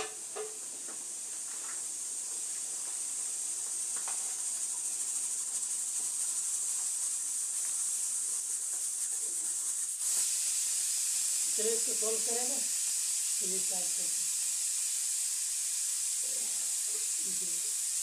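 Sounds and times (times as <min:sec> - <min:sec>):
high-pitched hiss: 0:00.0 - 0:18.0.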